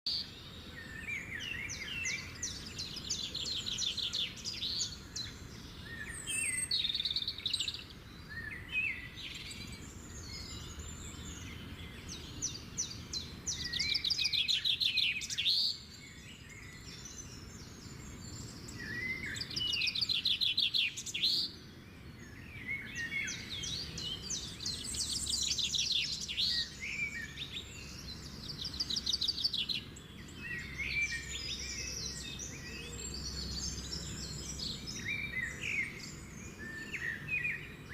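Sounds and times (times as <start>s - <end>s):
outdoor background noise: 0.1s - 37.9s
small birds chirping and trilling: 0.1s - 37.9s.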